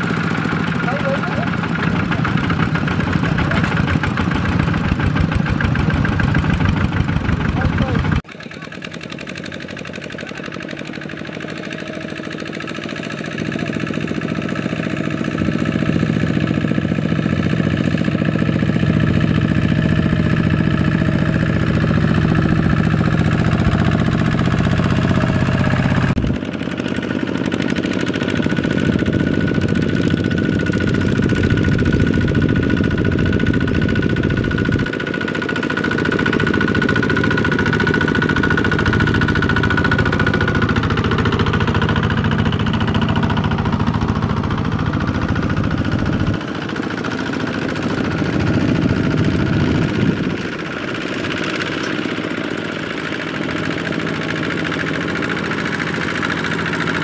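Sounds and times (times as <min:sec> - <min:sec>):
tractor diesel engines chugging: 0:00.0 - 0:57.0.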